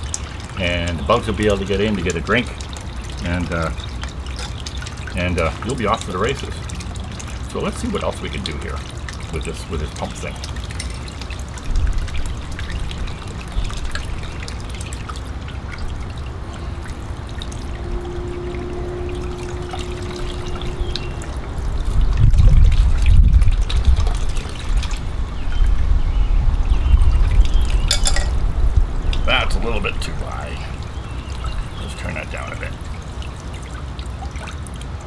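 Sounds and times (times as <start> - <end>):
water trickling and splashing: 0.0 - 35.0.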